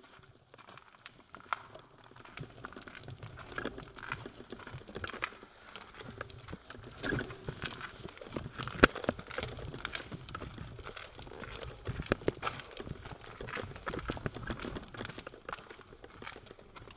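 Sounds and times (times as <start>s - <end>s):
footsteps in a tunnel: 0.0s - 16.9s.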